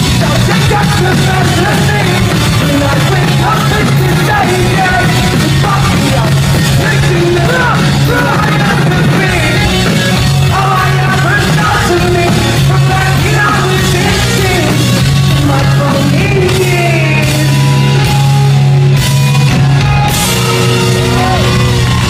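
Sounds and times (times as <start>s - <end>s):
person singing: 0.0s - 18.0s, 20.2s - 22.0s
pop-punk band playing live: 0.0s - 22.0s.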